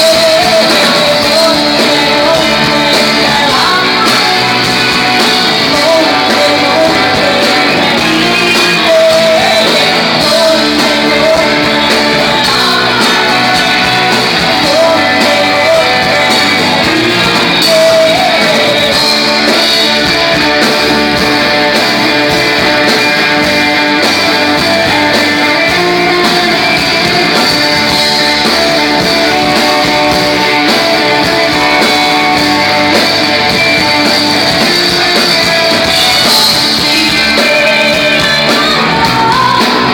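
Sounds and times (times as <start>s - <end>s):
electric guitar: 0.0s - 39.9s
person singing: 0.0s - 39.9s
rock band playing live: 0.0s - 39.9s.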